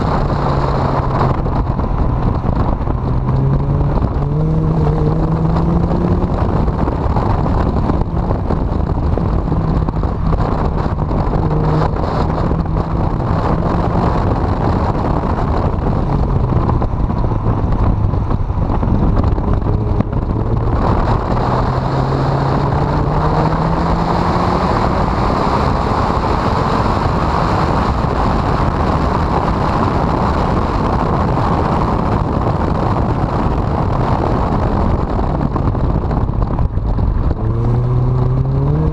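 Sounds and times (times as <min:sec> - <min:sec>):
car engine running: 0:00.0 - 0:38.9
wind noise on microphone: 0:00.0 - 0:38.9.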